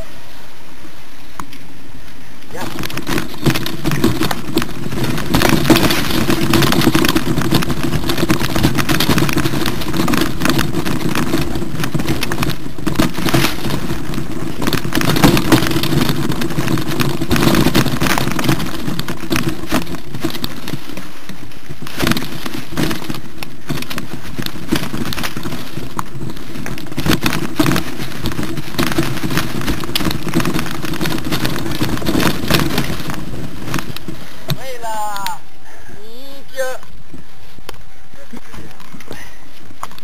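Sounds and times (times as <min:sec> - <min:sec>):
bike rattling over rocks: 0:02.5 - 0:40.0
tyres crunching over stones: 0:02.5 - 0:40.0.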